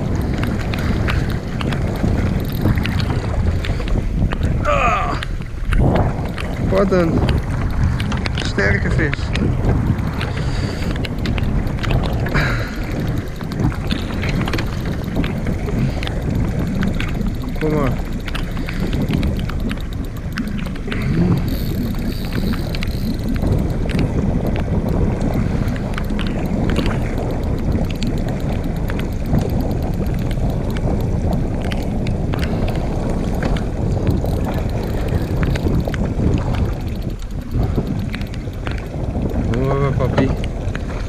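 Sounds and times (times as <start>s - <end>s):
small clicks: 0.0s - 4.5s, 5.1s - 41.0s
water sounds: 0.0s - 41.0s
wind buffeting microphone: 0.0s - 41.0s.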